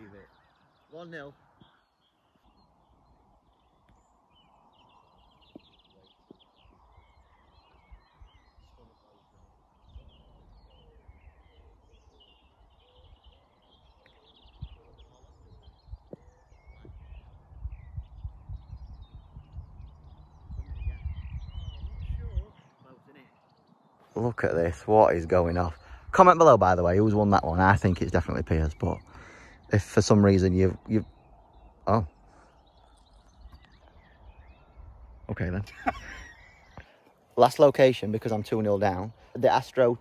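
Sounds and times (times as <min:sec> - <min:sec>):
wind buffeting microphone: 0:00.0 - 0:23.0, 0:23.6 - 0:37.0
birds singing and chirping: 0:00.0 - 0:40.0.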